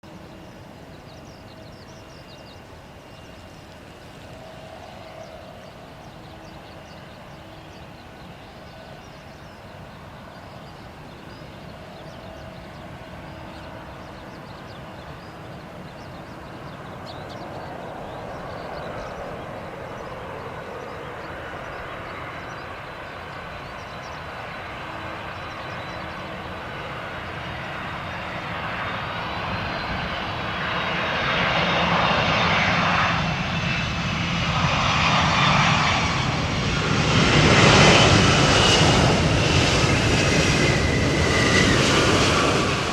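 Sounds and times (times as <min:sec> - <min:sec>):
jet airliner engine noise: 0:00.0 - 0:42.9.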